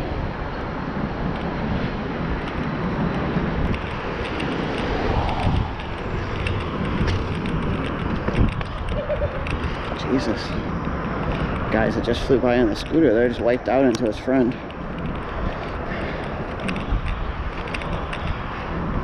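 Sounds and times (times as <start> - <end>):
car traffic passing: 0.0 - 19.0
wind buffeting microphone: 0.0 - 19.0.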